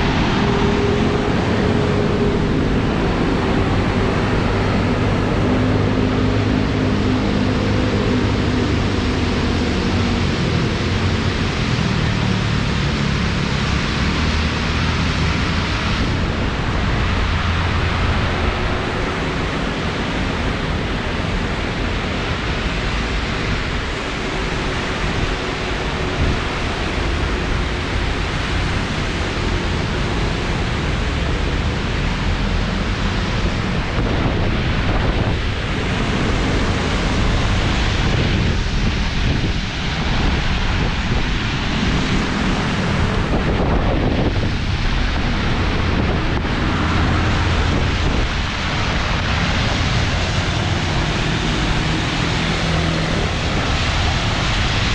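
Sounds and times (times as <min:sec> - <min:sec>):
heavy rain pouring: 0:00.0 - 0:54.9
wind on microphone: 0:00.0 - 0:54.9.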